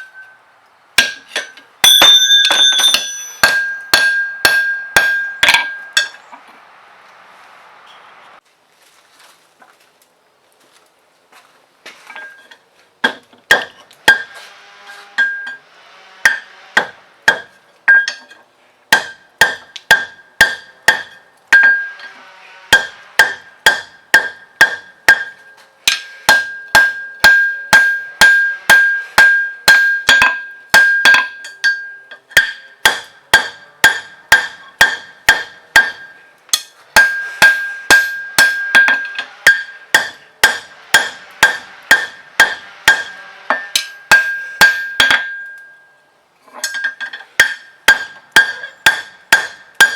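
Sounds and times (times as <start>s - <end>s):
hammer striking steel on anvil: 1.0s - 6.3s, 12.2s - 14.4s, 15.2s - 45.9s, 46.6s - 49.9s.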